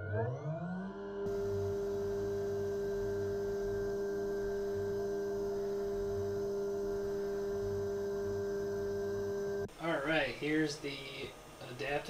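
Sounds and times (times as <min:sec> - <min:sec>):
milling machine spindle humming: 0:01.3 - 0:12.0.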